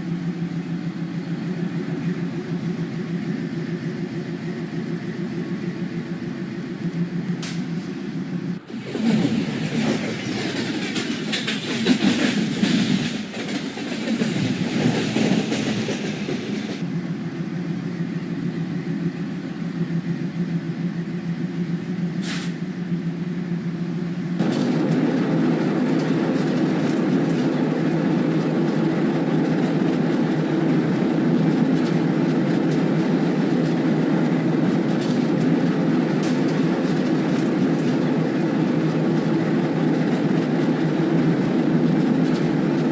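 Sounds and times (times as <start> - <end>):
diesel locomotive engine drone: 0.0 - 42.9.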